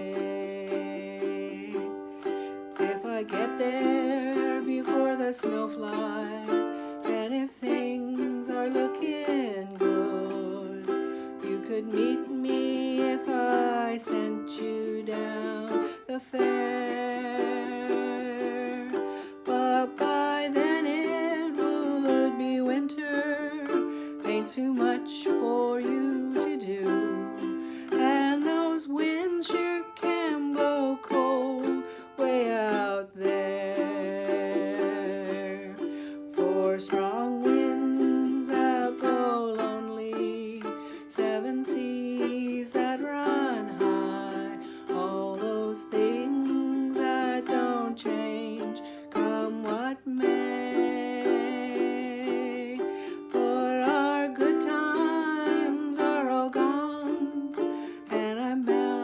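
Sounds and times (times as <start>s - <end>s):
person singing: 0.0s - 59.0s
ukulele strumming: 0.0s - 59.0s.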